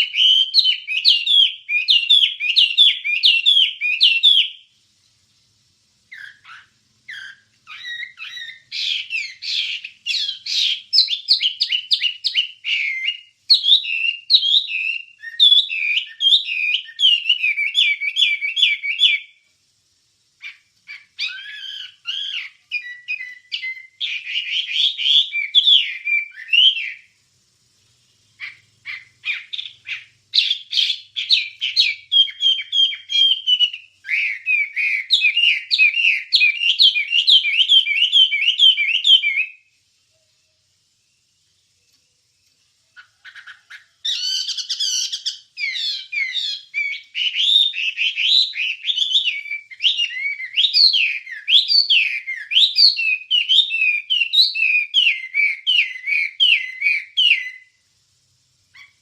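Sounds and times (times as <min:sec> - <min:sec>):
bird singing chattering song: 0:00.0 - 0:04.8, 0:06.0 - 0:19.5, 0:20.4 - 0:27.2, 0:27.9 - 0:57.8.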